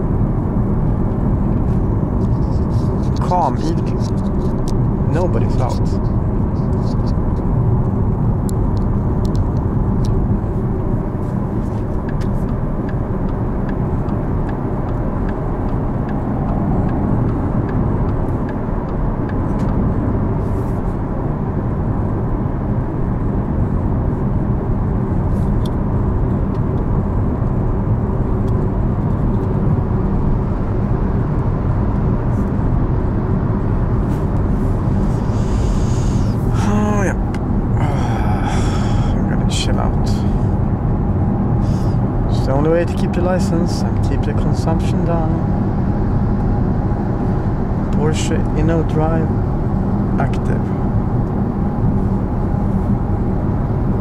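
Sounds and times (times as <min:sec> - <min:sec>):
tyre and road rumble: 0:00.0 - 0:54.0.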